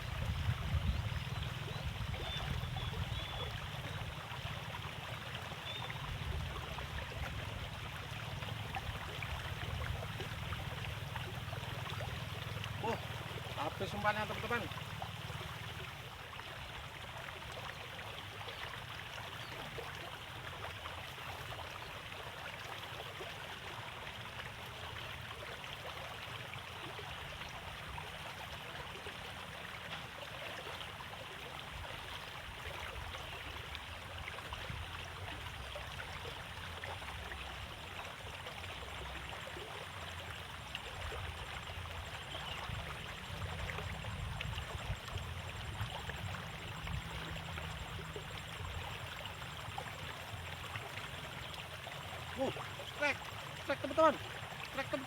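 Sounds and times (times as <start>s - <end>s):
water flowing in ditch: 0.0s - 55.0s.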